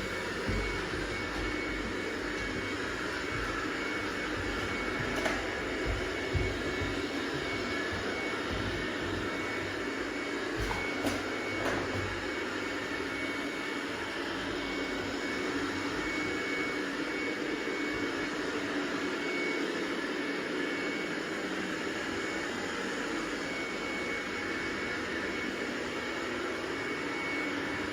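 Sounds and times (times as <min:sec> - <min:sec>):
robot vacuum motor whine: 0:00.0 - 0:27.9.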